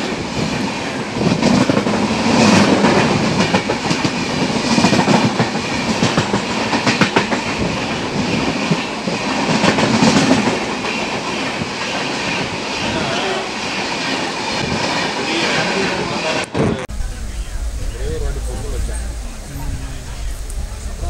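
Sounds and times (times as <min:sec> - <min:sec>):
train coaches rushing past: 0:00.0 - 0:21.0.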